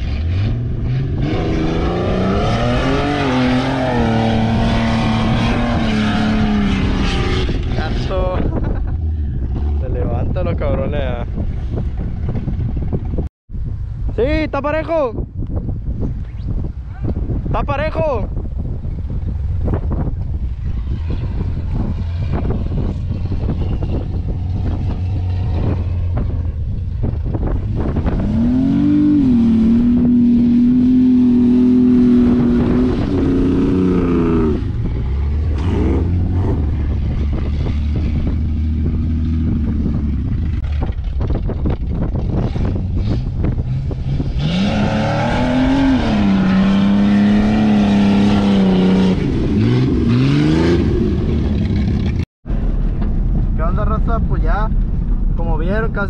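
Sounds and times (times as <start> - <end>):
vehicle engine revving: 0.0 - 13.2, 18.6 - 52.2.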